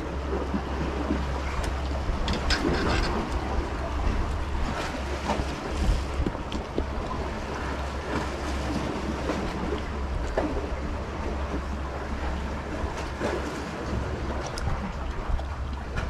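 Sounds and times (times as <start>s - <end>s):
sea waves against rocks: 0.0s - 16.0s
wind buffeting microphone: 0.0s - 16.0s.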